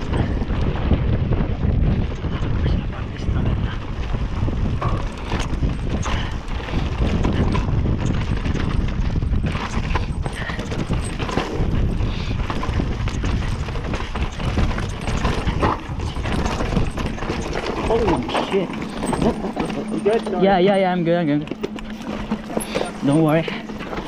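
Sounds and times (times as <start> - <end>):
bike chain and frame rattling: 0.0 - 24.0
bike tyres rolling over dirt: 0.0 - 24.0
wind buffeting microphone: 0.0 - 24.0.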